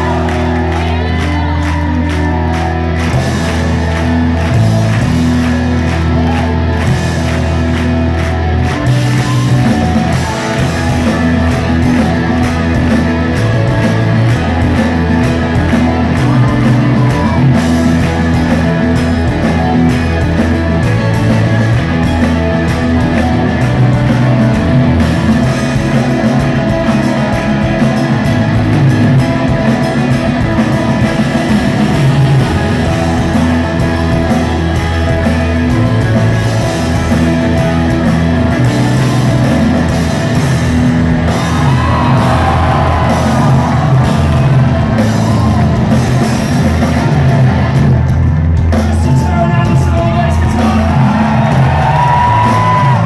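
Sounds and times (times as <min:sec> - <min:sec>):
bass: 0:00.0 - 0:53.0
drums: 0:00.0 - 0:53.0
electric guitar: 0:00.0 - 0:53.0.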